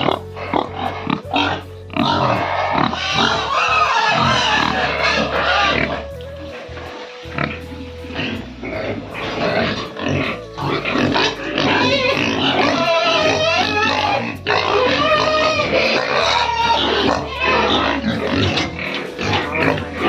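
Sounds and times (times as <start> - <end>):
background music: 0.0 - 20.0
pigs grunting and squealing: 0.0 - 20.0.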